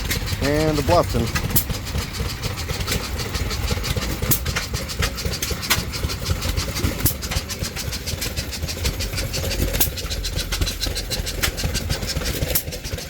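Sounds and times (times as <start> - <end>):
stationary engines chugging: 0.0 - 13.0.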